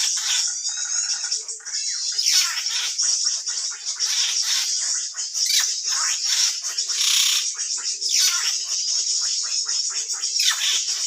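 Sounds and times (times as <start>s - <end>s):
drongo calls: 0.0s - 11.0s.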